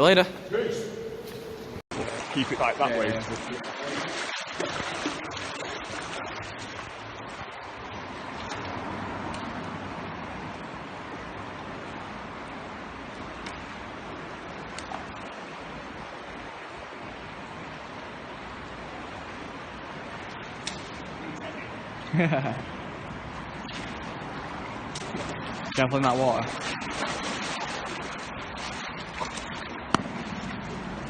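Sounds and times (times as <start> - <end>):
river water rushing through culvert: 1.9 - 31.0.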